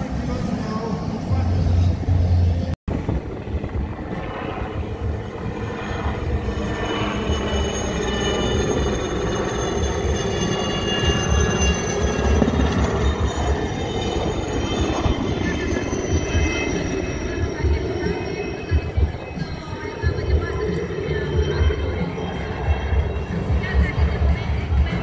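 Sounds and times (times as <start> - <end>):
helicopter rotor rumble: 0.0 - 25.0
helicopter turbine whine: 0.0 - 25.0.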